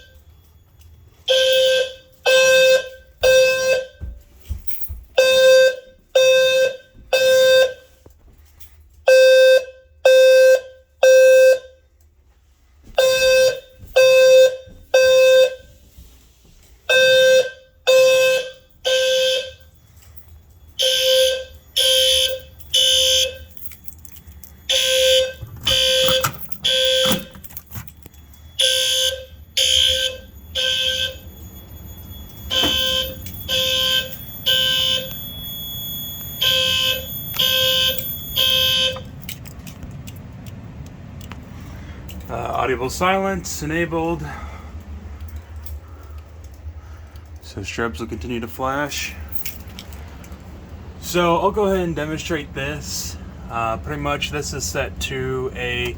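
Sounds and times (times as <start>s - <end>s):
fire alarm horns blasting: 0.0s - 12.2s, 12.8s - 55.9s.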